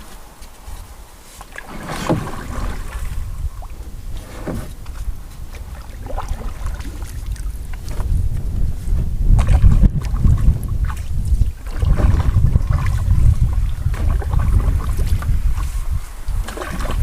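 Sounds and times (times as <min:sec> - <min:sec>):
paddle splashing in water: 0:00.0 - 0:17.0
wind on microphone: 0:00.0 - 0:17.0.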